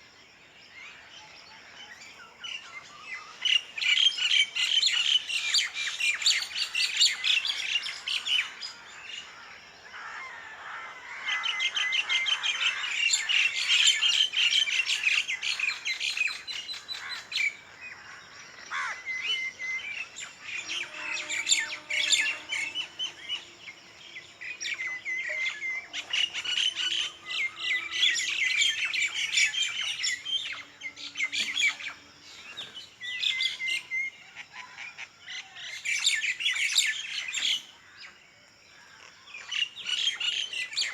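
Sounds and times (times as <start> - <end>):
many birds chirping: 0.0 - 40.9.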